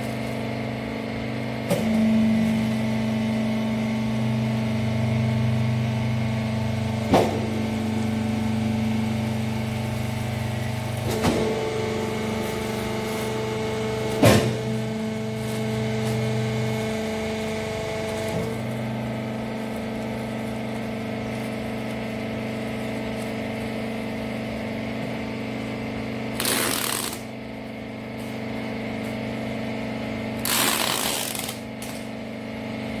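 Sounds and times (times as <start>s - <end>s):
baler motor and hydraulic pump humming: 0.0s - 33.0s.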